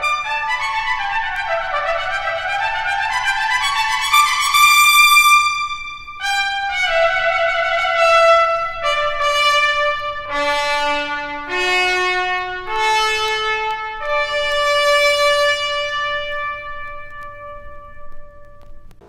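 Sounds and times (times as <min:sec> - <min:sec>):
trumpet playing long notes: 0:00.0 - 0:19.0.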